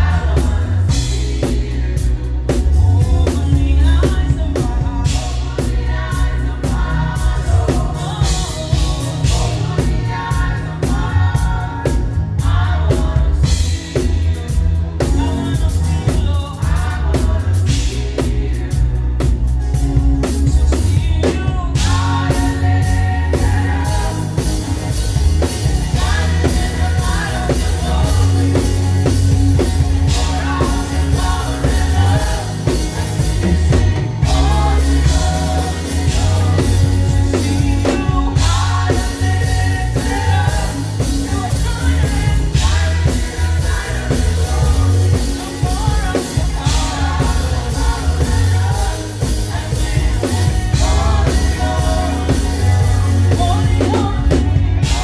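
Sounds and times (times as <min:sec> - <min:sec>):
live band playing: 0:00.0 - 0:55.0
voices singing: 0:00.0 - 0:55.0.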